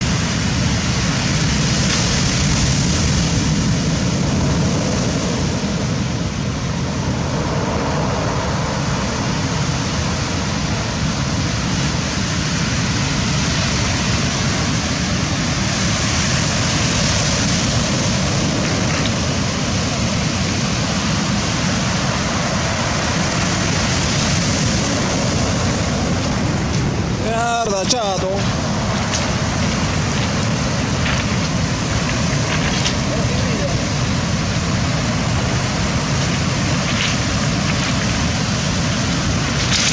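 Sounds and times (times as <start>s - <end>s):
rough sea surf breaking: 0.0s - 39.9s.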